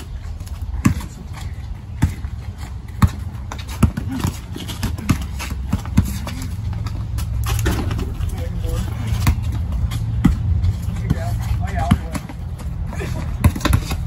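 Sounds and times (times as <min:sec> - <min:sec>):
basketball bouncing on concrete: 0:00.1 - 0:14.0.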